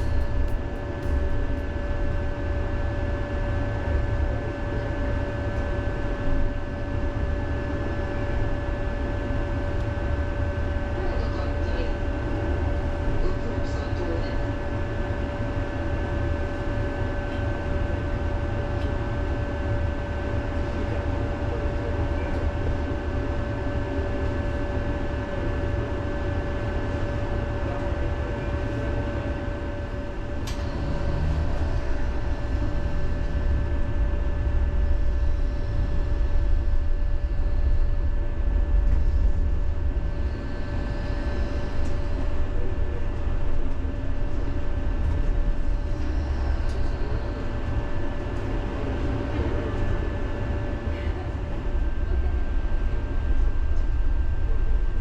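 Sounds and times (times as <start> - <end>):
steady high whine: 0.0 - 55.0
tram wheels rumbling on track: 0.0 - 55.0.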